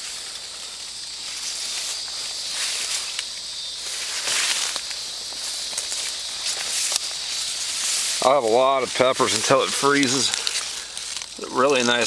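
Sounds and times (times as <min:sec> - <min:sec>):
leaves rustling and crackling: 0:00.0 - 0:12.0
steady high hiss: 0:00.0 - 0:12.0.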